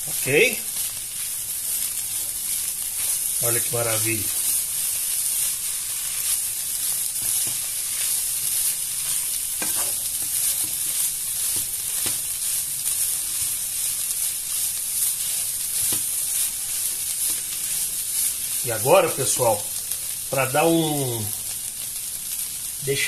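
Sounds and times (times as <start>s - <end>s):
food sizzling in frying pan: 0.0s - 23.0s.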